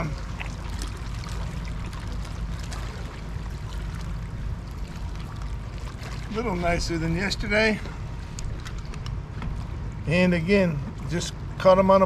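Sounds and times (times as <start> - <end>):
rushing water: 0.0 - 10.0
heavy low rumble: 0.0 - 12.0
wind: 0.0 - 12.0.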